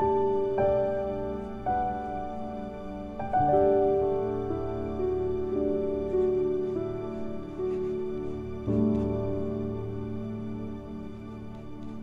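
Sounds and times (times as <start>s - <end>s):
slow keyboard music: 0.0s - 12.0s.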